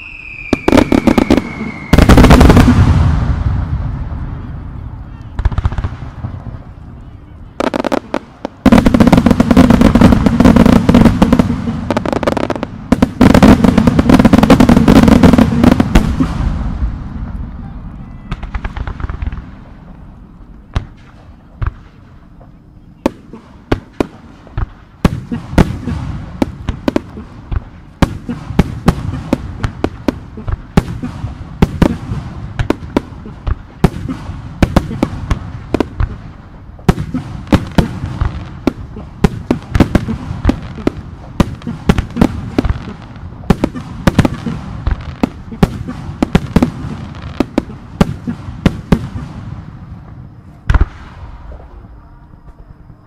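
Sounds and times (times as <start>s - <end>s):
fireworks bursting with sharp bangs: 0.0s - 53.0s.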